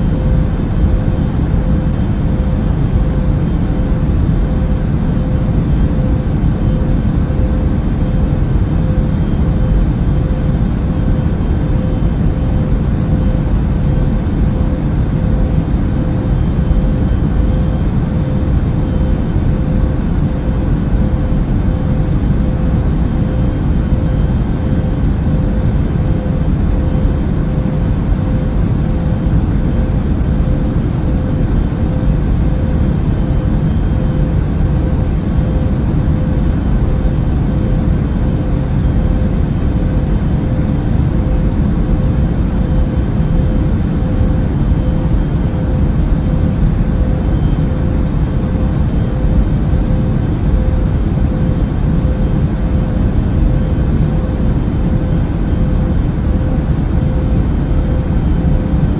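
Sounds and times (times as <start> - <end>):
airplane cabin engine rush: 0.0 - 58.9
faint constant hum: 0.0 - 58.9.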